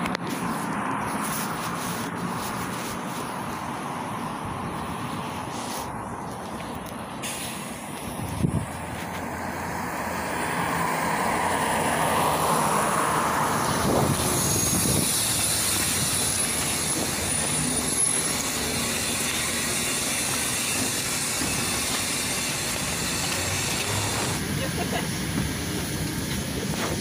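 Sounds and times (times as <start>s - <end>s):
bus engine and tyre noise: 0.0s - 27.0s.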